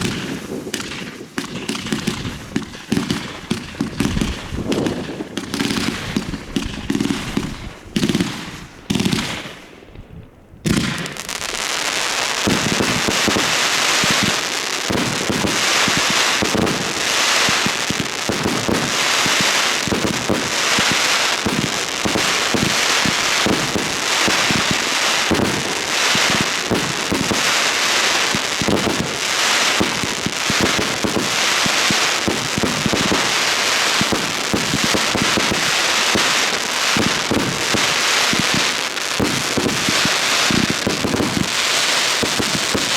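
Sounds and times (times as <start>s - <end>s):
fireworks banging and crackling: 0.0s - 42.9s.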